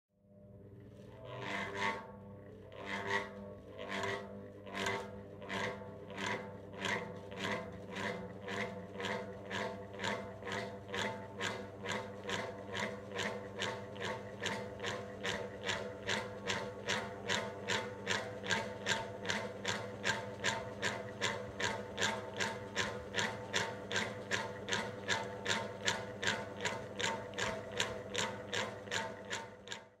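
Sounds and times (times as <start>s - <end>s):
low motor hum: 0.2s - 30.0s.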